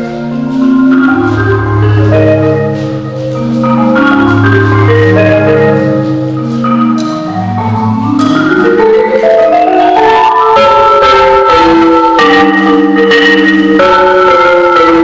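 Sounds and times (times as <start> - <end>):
mallet percussion music: 0.0 - 15.0.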